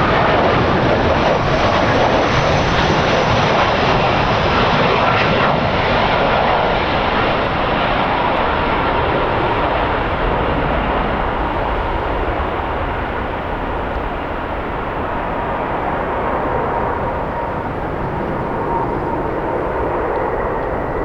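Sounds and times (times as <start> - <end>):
jet airliner engine noise: 0.0 - 21.0
wind rumbling on microphone: 0.0 - 21.0.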